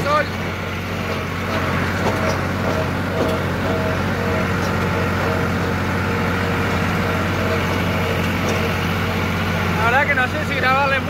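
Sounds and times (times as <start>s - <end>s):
tractor engine drone: 0.0s - 11.0s.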